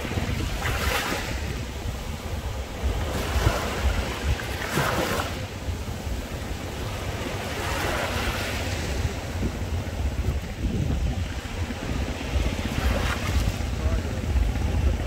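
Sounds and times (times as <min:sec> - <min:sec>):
small waves washing ashore: 0:00.0 - 0:15.0
wind rumble on microphone: 0:00.0 - 0:15.0.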